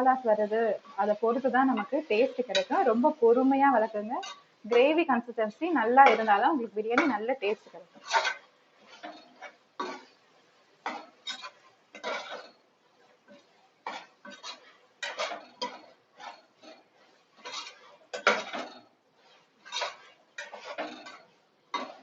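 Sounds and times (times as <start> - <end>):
spoon scraping cooking pan: 0.0 - 22.0.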